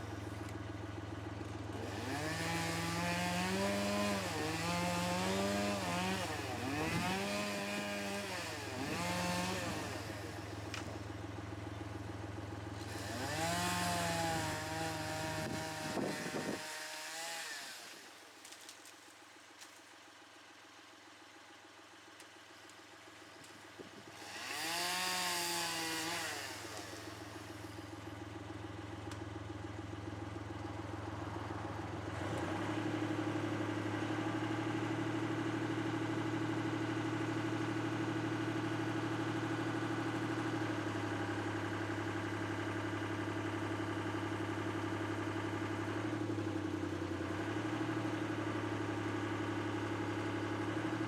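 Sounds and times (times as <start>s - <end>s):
engine running: 0.0s - 16.7s, 21.2s - 51.0s.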